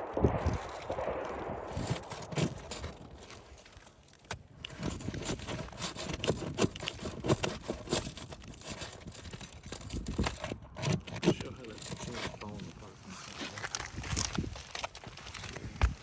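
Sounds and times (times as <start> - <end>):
roof shingles scraping and clicking: 0.1 - 16.0.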